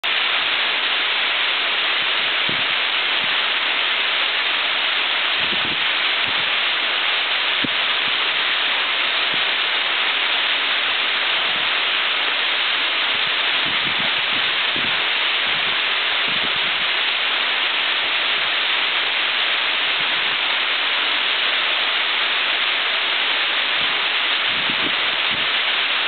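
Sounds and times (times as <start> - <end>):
waterfall rushing and splashing: 0.0 - 26.0.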